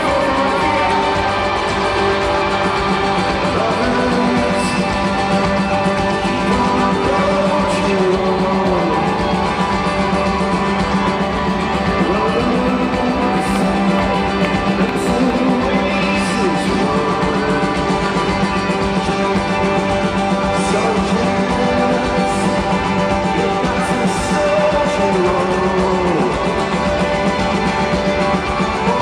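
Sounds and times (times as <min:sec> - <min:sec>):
live rock band: 0:00.0 - 0:29.0
person singing: 0:00.0 - 0:29.0.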